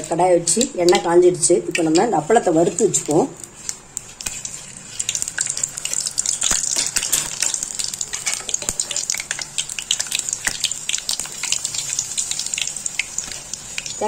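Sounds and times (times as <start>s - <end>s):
papadum frying in hot oil: 0.0s - 14.0s.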